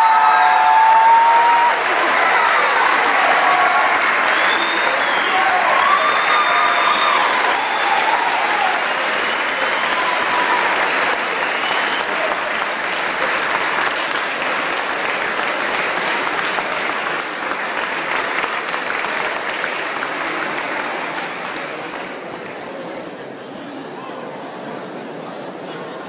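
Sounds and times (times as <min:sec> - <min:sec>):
large crowd applauding: 0:00.0 - 0:23.1.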